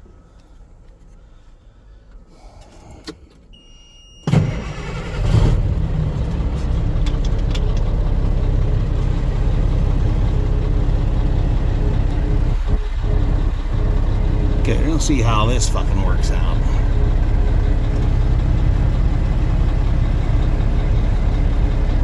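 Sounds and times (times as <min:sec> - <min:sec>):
diesel engine starting and idling: 0:02.5 - 0:22.0.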